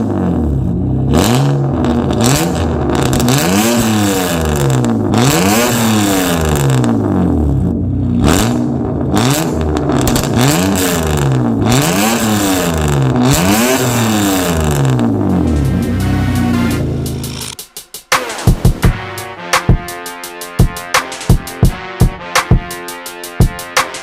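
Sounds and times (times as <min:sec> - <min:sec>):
car engine revving: 0:00.0 - 0:19.7.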